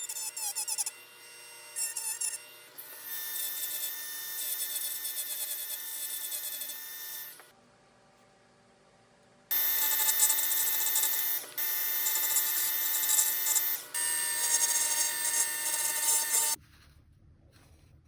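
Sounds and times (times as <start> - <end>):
power tool whining on wood: 0.0 - 7.5, 9.5 - 16.6.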